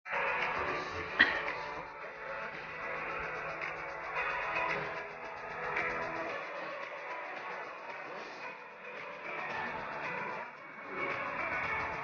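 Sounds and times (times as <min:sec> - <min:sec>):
background music: 0:00.1 - 0:12.0.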